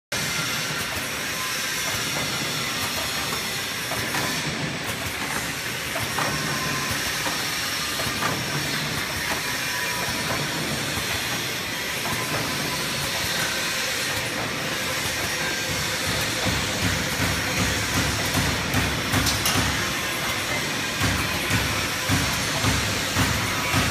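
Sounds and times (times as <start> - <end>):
packing machine clatter and hiss: 0.2 - 23.9.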